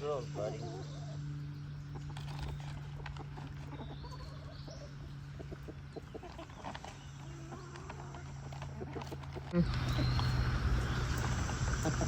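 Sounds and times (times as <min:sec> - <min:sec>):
chickens clucking: 0:00.0 - 0:12.0
steady low hum: 0:00.0 - 0:12.0.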